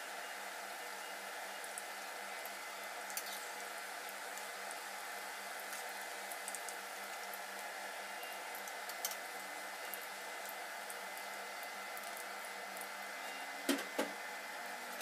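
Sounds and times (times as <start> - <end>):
oil sizzling in frying pan: 0.0 - 15.0.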